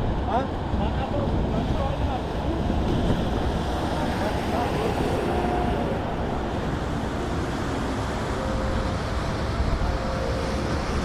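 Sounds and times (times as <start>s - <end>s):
road traffic rumble: 0.0s - 11.0s
wind on microphone: 0.0s - 11.0s.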